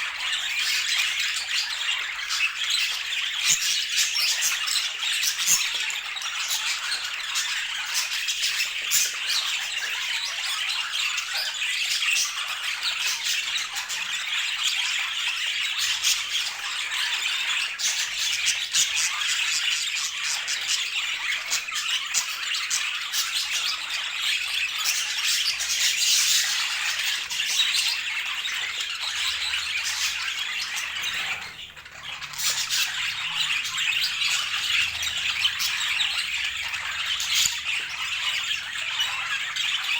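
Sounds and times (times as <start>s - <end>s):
budgerigar chatter: 0.0s - 39.9s.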